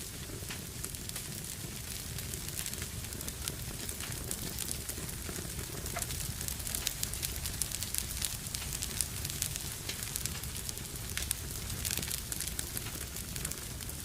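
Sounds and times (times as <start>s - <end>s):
fire crackling and snapping: 0.0s - 14.0s
low rumble of flame: 0.0s - 14.0s.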